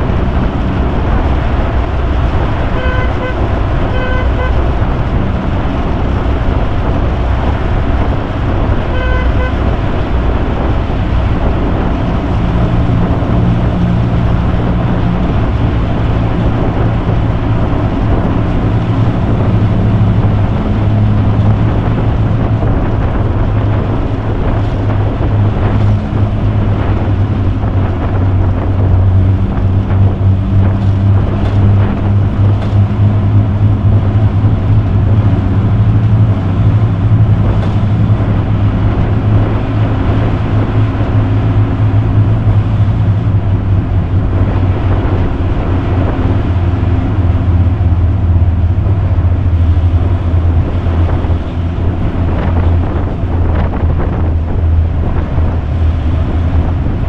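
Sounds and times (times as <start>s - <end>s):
car engine running: 0.0s - 57.0s
road and wind noise: 0.0s - 57.0s.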